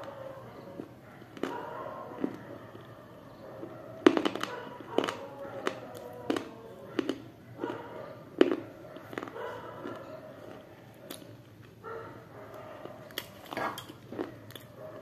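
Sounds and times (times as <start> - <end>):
crunchy food chewing: 0.0 - 15.0.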